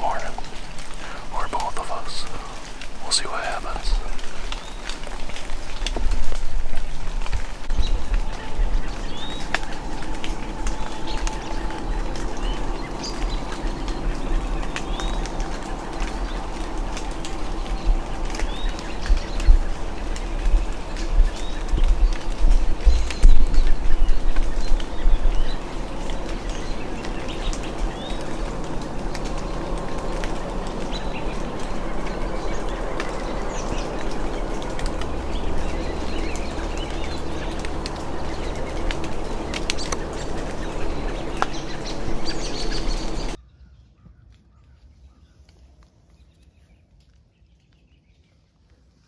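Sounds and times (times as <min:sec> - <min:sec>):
birds chirping and calling: 0:00.0 - 0:43.4
steady rushing noise: 0:00.0 - 0:43.4.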